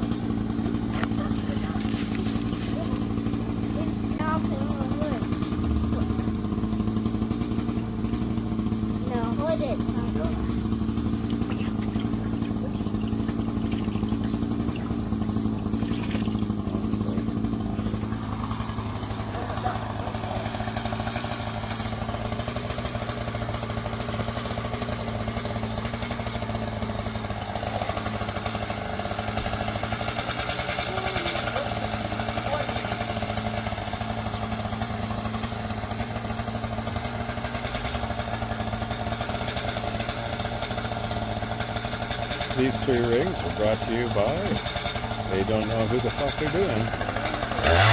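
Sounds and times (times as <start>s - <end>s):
chainsaw engine running: 0.0s - 47.9s.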